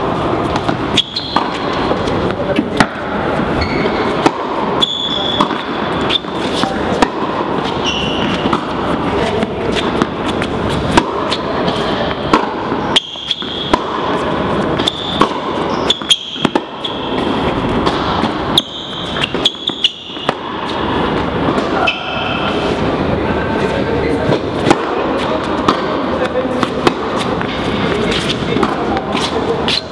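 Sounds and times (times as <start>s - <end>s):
tennis ball bouncing: 0.0s - 22.6s, 24.2s - 29.9s
racket hitting tennis ball: 0.0s - 22.9s, 24.2s - 29.9s
shoe squeaks: 0.7s - 2.6s, 3.4s - 22.9s, 27.1s - 29.9s.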